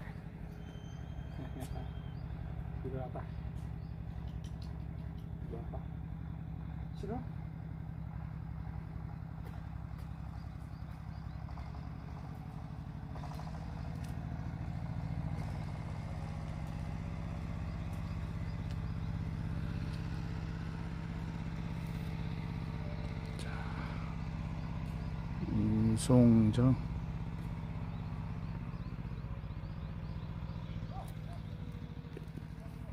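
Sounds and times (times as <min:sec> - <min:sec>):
low engine hum: 0:00.0 - 0:32.9.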